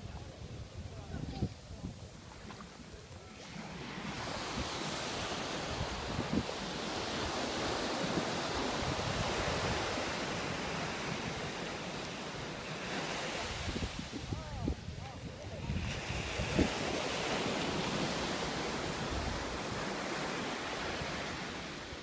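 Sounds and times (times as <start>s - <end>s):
small waves washing up beach: 0.0s - 22.0s
wind rumbling on microphone: 0.0s - 22.0s.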